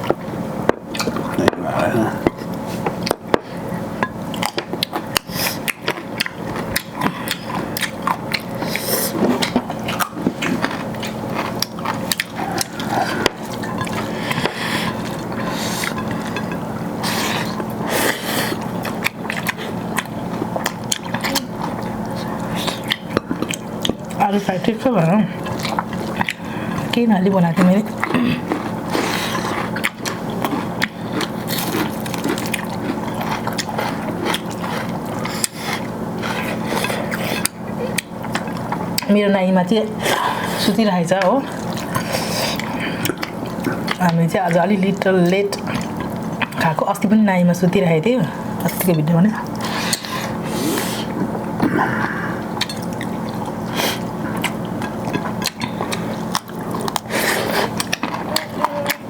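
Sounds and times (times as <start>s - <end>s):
wet chewing: 4.3s - 39.2s, 40.0s - 46.7s, 49.3s - 59.0s.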